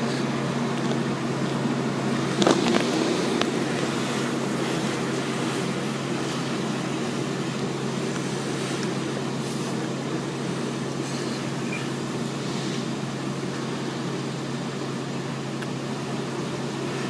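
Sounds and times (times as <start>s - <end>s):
car wash machinery running: 0.0s - 17.0s.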